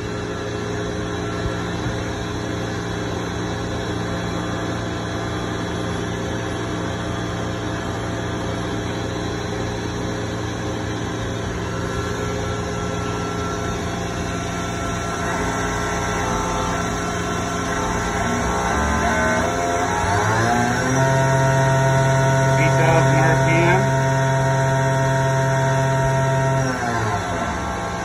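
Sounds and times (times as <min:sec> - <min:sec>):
machining center humming: 0:00.0 - 0:28.0.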